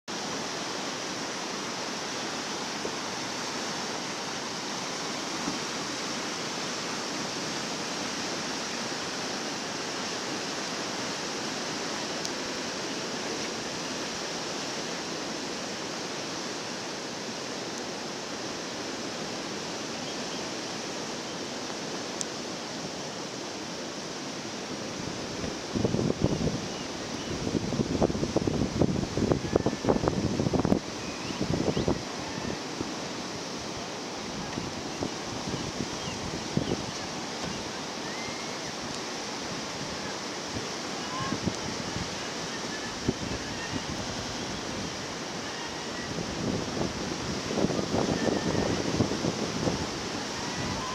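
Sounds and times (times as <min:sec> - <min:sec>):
whitewater rushing: 0:00.1 - 0:50.9.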